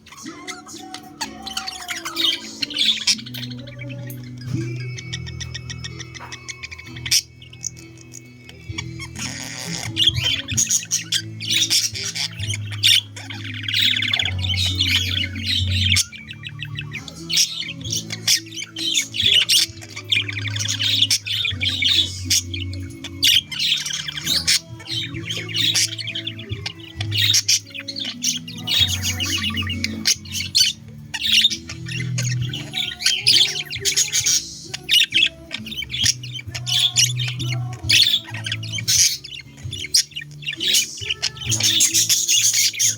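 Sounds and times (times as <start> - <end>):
background music with low notes: 0.0 - 42.9
budgerigars chattering and squawking: 0.0 - 42.9.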